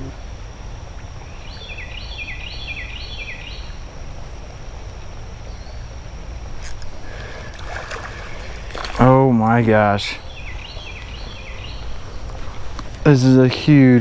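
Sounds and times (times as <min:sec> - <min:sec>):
low outdoor rumble: 0:00.0 - 0:14.0
songbird singing: 0:00.0 - 0:14.0.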